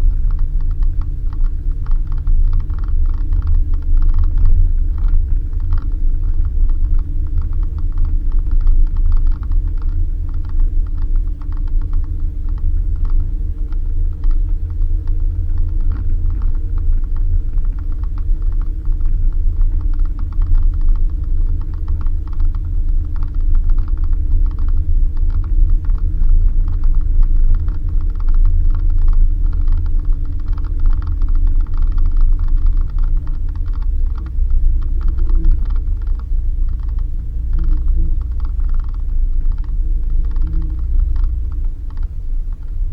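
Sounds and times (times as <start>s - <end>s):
car engine drone: 0.0s - 42.9s.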